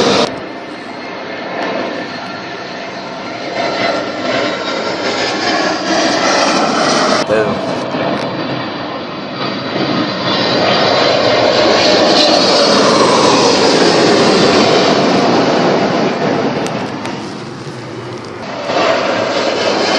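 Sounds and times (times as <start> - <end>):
jet engines roaring: 0.0 - 19.9.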